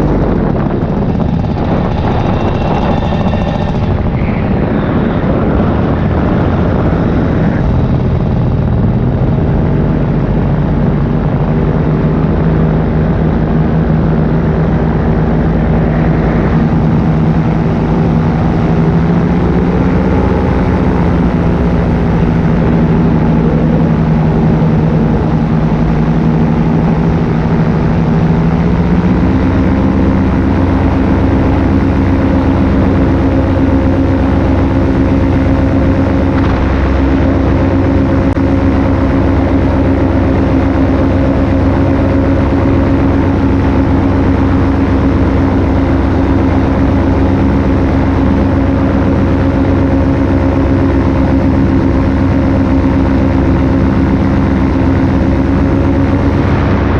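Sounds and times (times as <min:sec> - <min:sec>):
paramotor engine and propeller: 0:00.0 - 0:56.9.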